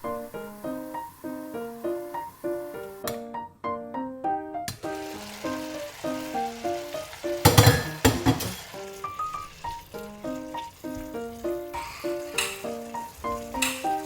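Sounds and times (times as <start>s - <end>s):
food sizzling in a frying pan: 0.0s - 3.0s, 4.8s - 14.0s
light keyboard music: 0.0s - 14.0s.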